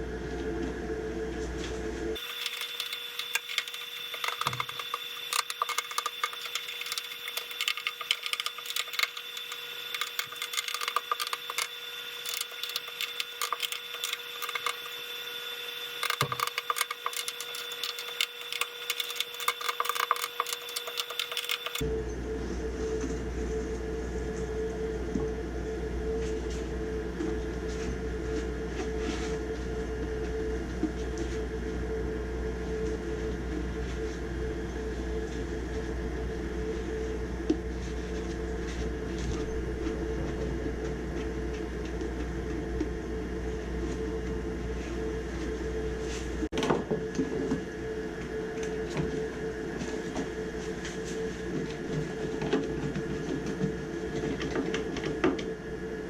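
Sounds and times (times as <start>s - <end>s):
furnace humming: 0.0s - 56.0s.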